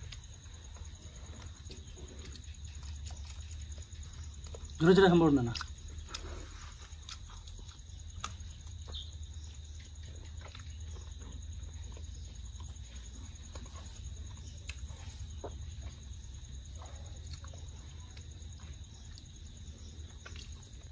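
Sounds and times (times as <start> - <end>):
man chewing food: 0.0 - 20.9
steady low hum: 0.0 - 20.9.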